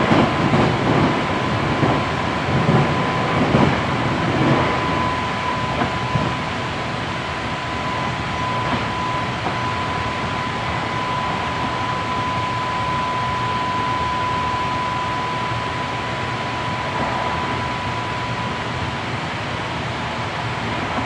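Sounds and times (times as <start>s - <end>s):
electric train rumble and rail noise: 0.0s - 21.0s
thin steady high tone: 1.4s - 20.6s.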